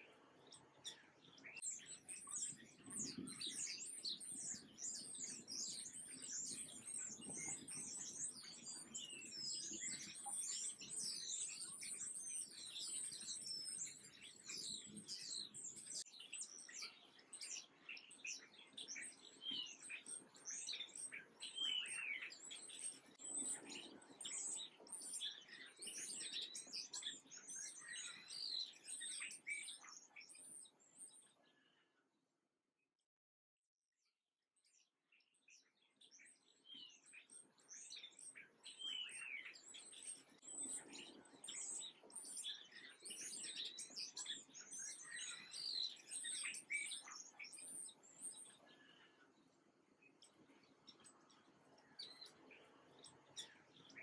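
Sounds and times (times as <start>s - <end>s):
small birds chirping: 0.0s - 32.1s, 34.6s - 54.0s.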